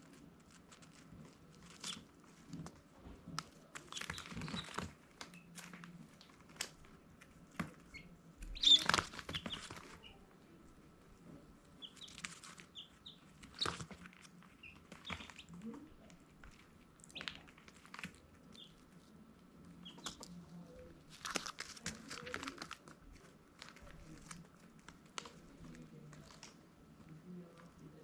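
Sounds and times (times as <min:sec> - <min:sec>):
baby chicks peeping: 0:00.1 - 0:26.6.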